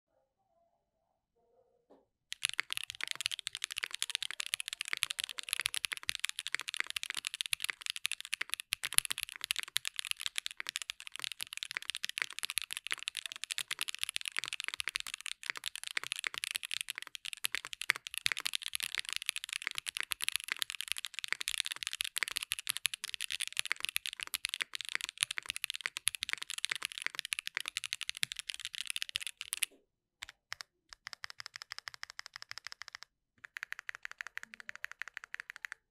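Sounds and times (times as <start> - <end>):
mechanical keyboard typing: 2.3 - 35.9.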